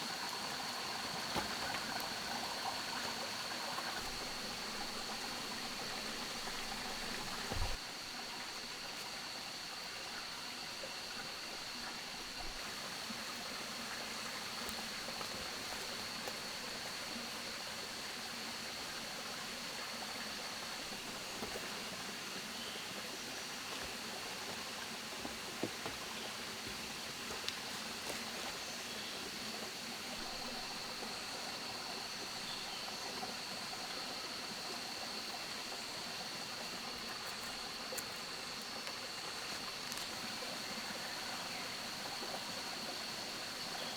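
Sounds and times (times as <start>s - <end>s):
running water rushing: 0.0s - 43.9s.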